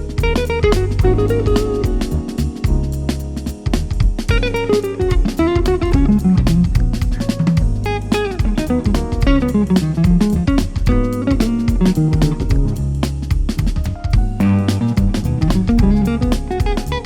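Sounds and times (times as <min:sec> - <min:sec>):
bass guitar: 0:00.0 - 0:17.0
drum kit steady beat: 0:00.0 - 0:17.0.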